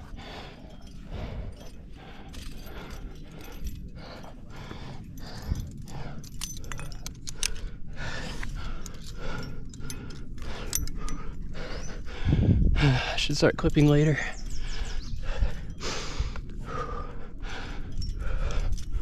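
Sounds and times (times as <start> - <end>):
metal carabiners clinking: 0.0 - 12.3, 13.0 - 19.0
hard rhythmic breathing: 0.0 - 19.0.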